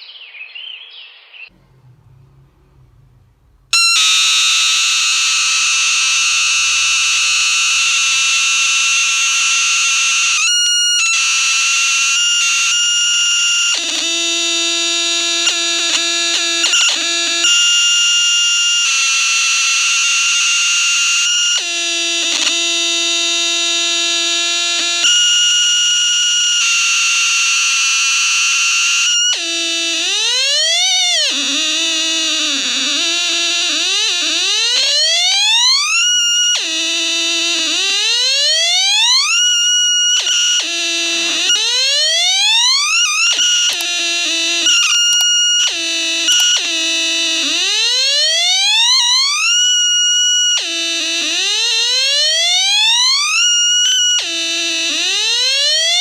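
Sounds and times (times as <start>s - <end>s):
buzzy electronic siren tones: 1.5s - 56.0s.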